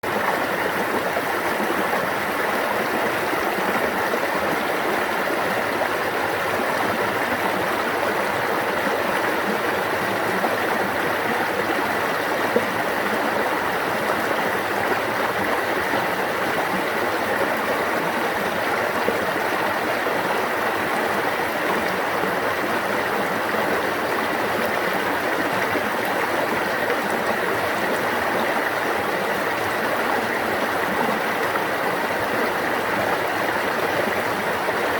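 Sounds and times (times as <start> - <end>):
stream running: 0.0 - 34.9.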